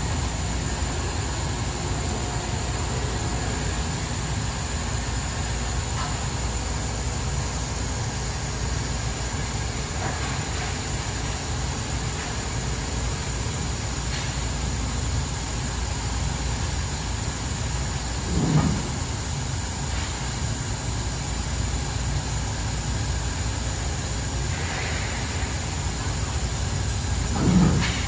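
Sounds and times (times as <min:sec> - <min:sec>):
laser cutter machine rumble and hiss: 0:00.0 - 0:28.0.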